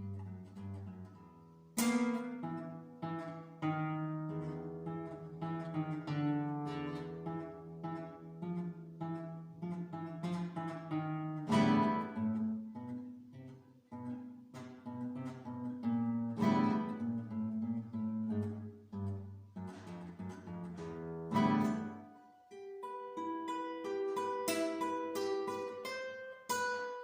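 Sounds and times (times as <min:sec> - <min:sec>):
acoustic guitar plucked notes: 0:00.0 - 0:27.0
strummed guitar chords: 0:00.0 - 0:27.0.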